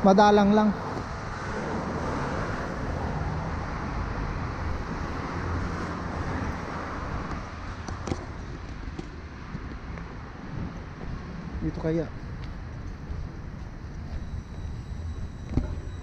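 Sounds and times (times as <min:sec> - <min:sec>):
cars passing with tyre noise: 0:00.0 - 0:16.0.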